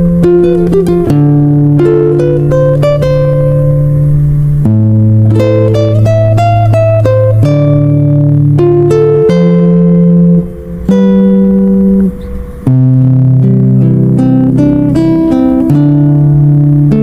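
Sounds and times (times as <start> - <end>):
plucked guitar instrumental: 0.0 - 17.0.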